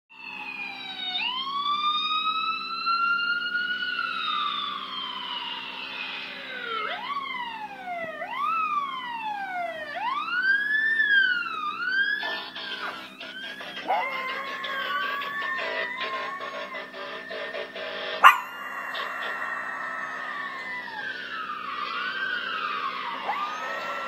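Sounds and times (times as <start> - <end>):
police siren wailing: 0.1 - 24.0.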